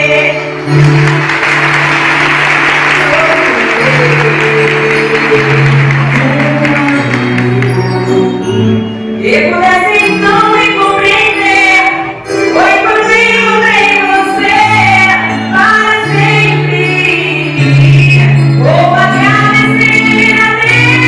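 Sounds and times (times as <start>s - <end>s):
woman singing slow melody: 0.0s - 0.7s, 3.5s - 8.6s, 9.2s - 21.0s.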